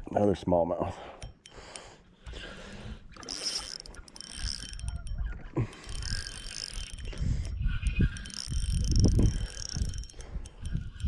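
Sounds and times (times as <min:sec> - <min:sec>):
fishing reel whirring and clicking: 0:01.1 - 0:11.0.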